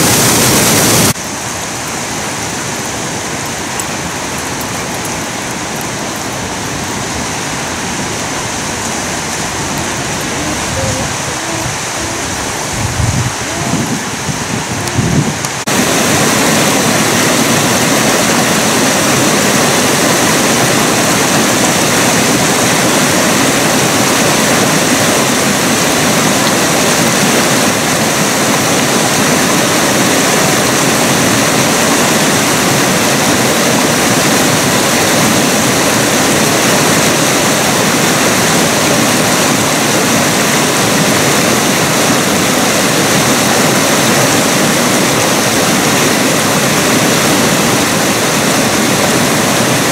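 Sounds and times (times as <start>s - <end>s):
creek rushing over rocks: 0.0s - 49.9s.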